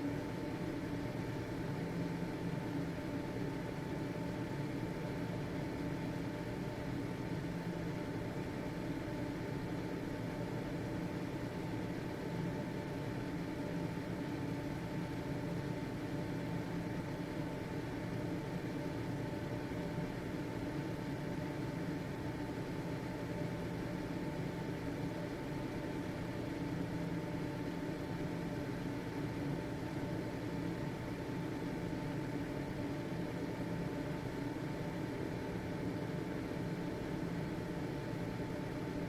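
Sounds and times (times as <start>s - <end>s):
ventilation fan running: 0.0s - 39.0s.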